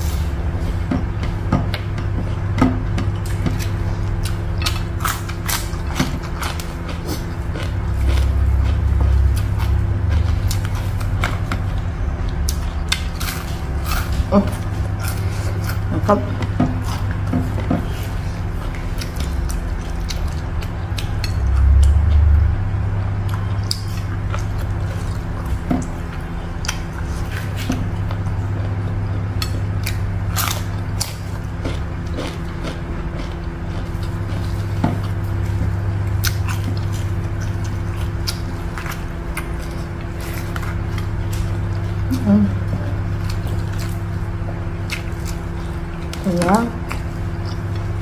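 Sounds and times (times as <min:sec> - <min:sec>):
steady low hum: 0:00.0 - 0:48.0
chewing and mouth smacks: 0:00.6 - 0:22.3, 0:23.2 - 0:48.0.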